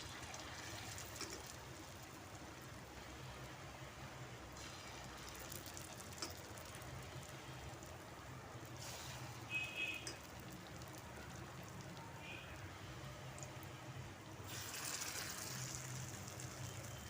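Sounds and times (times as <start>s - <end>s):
fritters sizzling in oil: 0.0s - 17.0s.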